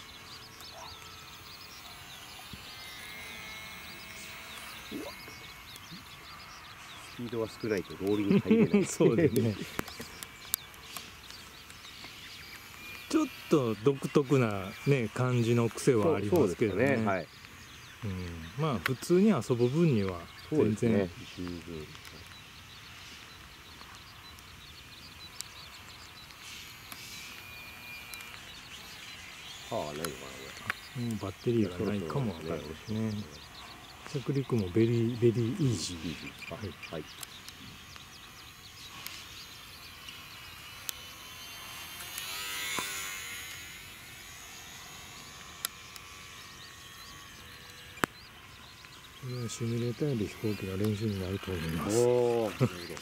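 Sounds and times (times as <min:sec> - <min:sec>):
birds chirping: 0:00.0 - 0:53.0
model airplane motor buzzing: 0:00.0 - 0:53.0.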